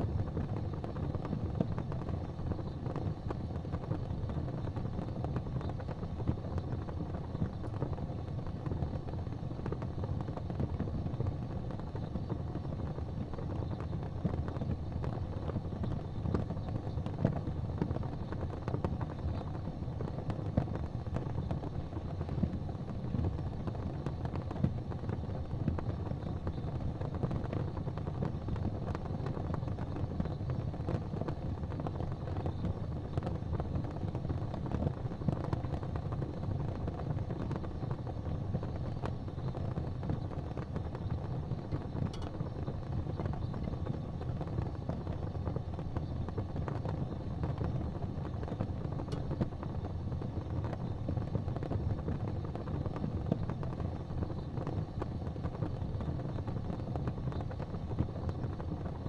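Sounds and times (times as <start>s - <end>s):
fire crackling in a fireplace: 0.0s - 59.0s.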